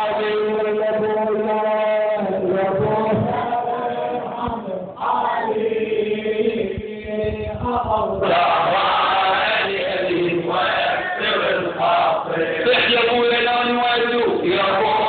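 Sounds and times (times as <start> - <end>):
men chanting: 0.0 - 15.0.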